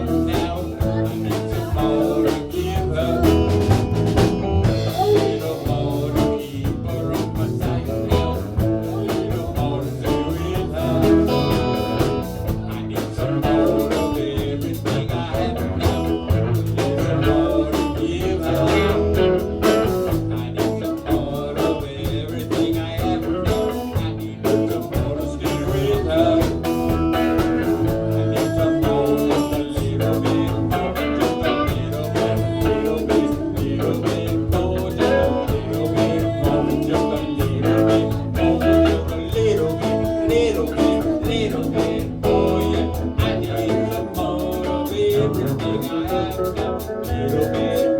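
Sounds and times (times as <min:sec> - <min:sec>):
blues band music with guitar: 0:00.0 - 0:47.9.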